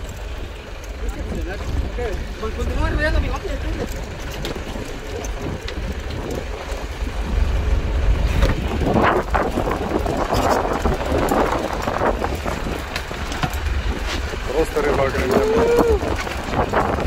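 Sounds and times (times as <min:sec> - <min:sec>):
boat engine rumble: 0:00.0 - 0:17.0
wind on microphone: 0:00.0 - 0:17.0.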